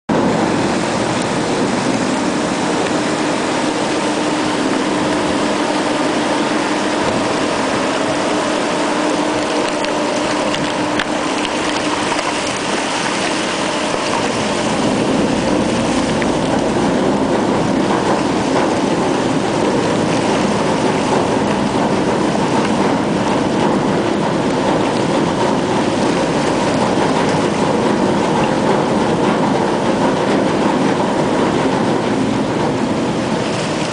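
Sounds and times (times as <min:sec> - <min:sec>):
water and ice rushing along hull: 0:00.0 - 0:33.9
faint ship engine hum: 0:00.1 - 0:33.9.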